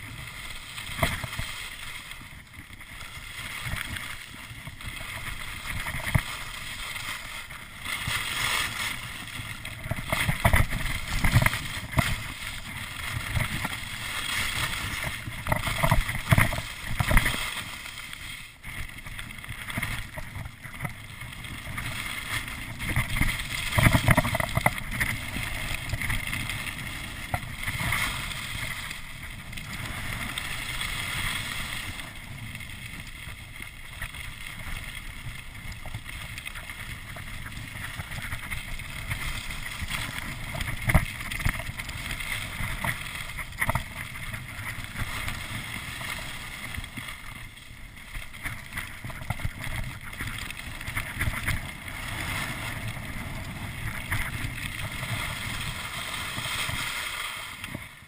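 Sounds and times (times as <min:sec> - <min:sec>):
skis scraping over packed snow: 0:00.0 - 0:58.0.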